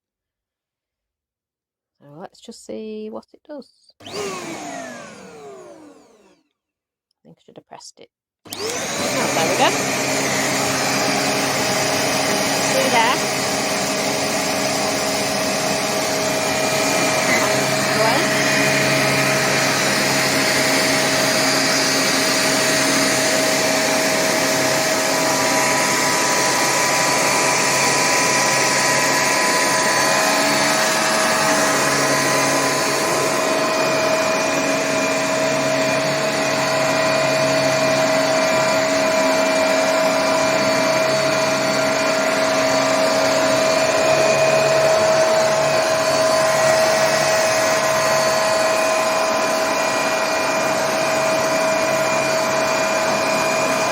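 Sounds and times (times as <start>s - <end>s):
handheld vacuum cleaner running: 4.0s - 6.6s, 8.5s - 53.9s.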